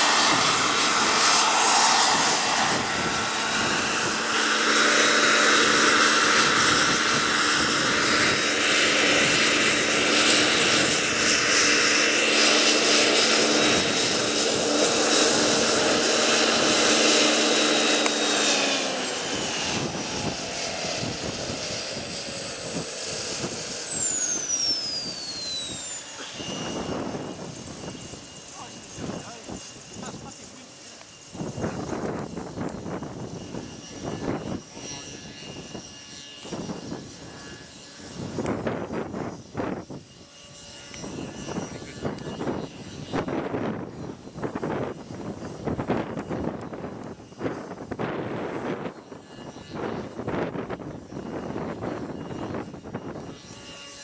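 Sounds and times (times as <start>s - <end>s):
model helicopter turbine whine: 0.0s - 54.0s.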